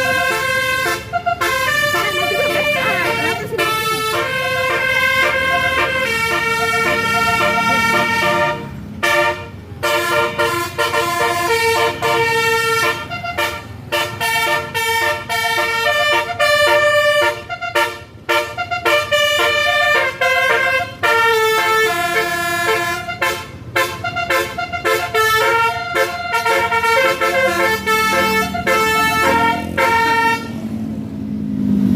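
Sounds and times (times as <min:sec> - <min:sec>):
bus horn playing a tune: 0:00.0 - 0:30.8.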